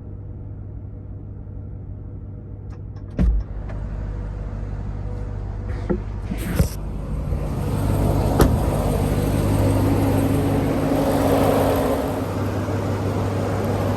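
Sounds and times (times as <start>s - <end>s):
truck engine running: 0.0s - 13.9s.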